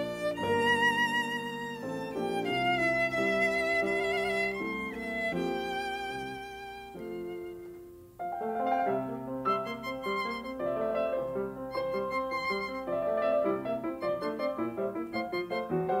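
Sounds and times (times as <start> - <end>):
piano notes: 0.0 - 16.0
violin: 0.0 - 16.0.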